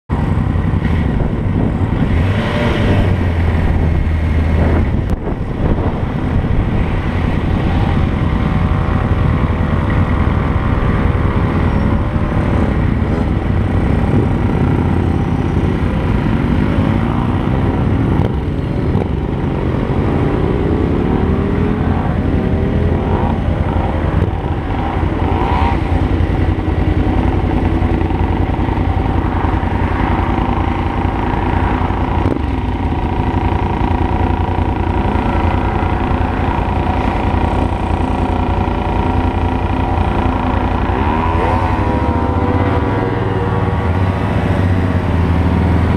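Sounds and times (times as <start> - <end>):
road and wind noise: 0.1 - 45.9
motorcycle engine revving: 0.2 - 45.9.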